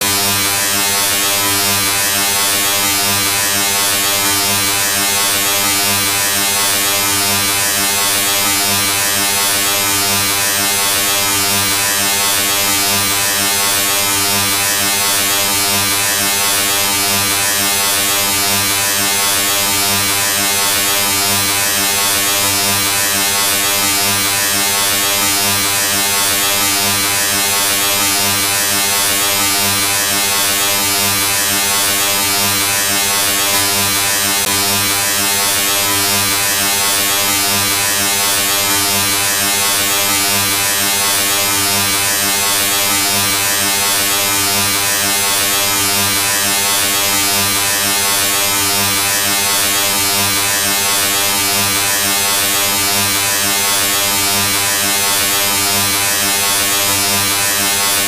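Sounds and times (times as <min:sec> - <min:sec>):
electric motor buzzing and hissing: 0:00.1 - 0:58.0.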